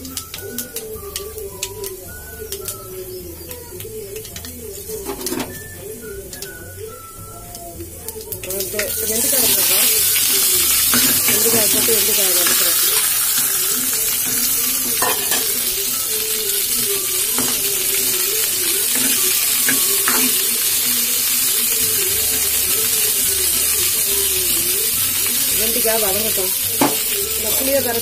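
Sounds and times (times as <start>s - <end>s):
okra sizzling in hot oil: 0.0s - 28.0s.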